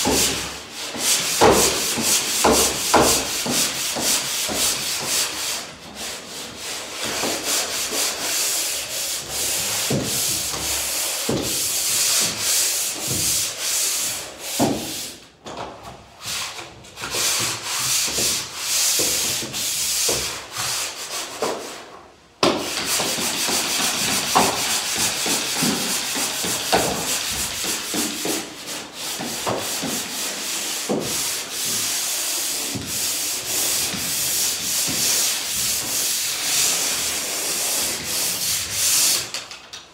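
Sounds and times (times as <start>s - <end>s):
pole sander rasping on wall: 0.0s - 15.2s, 22.4s - 39.4s.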